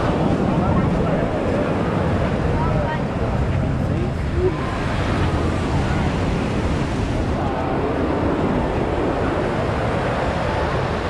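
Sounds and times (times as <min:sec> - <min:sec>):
surf washing: 0:00.0 - 0:11.0
wind rumbling on microphone: 0:00.0 - 0:11.0.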